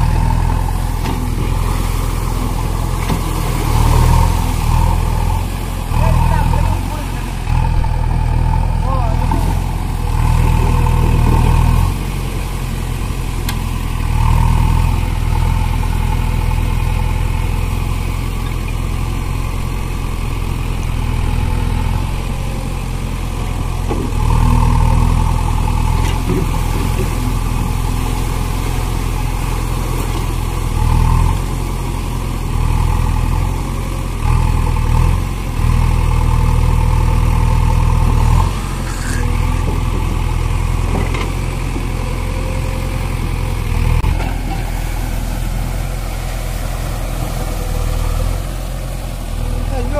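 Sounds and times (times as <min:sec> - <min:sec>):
diesel engine idling and revving: 0:00.0 - 0:49.9.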